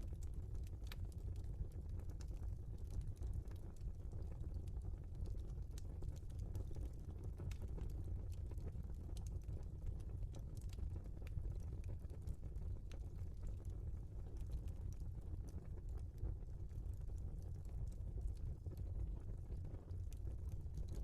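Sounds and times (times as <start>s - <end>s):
logs crackling and popping: 0.0s - 21.0s
low rumble of flames: 0.0s - 21.0s.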